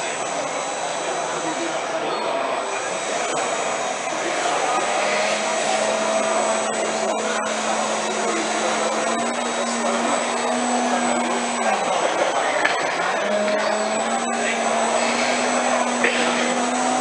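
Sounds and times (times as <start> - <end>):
electric motors and propellers whirring: 0.0 - 17.0.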